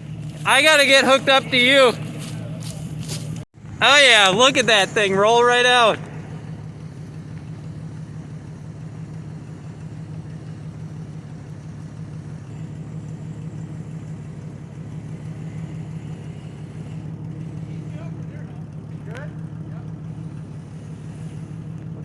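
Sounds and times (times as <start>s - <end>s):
vehicle engine running at low revs: 0.0s - 22.0s.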